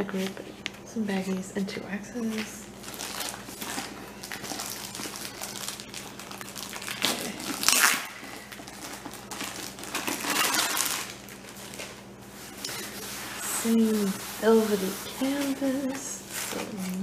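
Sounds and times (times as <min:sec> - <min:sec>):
plastic packaging crinkling: 0:02.3 - 0:17.0.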